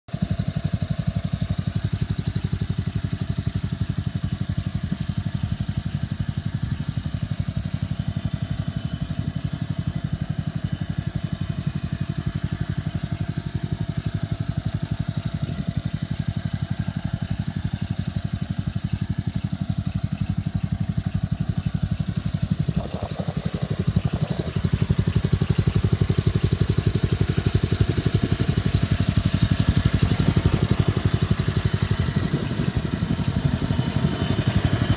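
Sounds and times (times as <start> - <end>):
lawn tractor engine running: 0.1 - 34.9.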